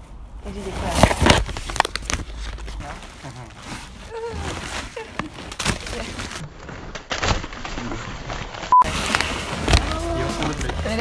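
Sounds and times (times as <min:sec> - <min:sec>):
paper and cardboard rustling: 0:00.6 - 0:11.0.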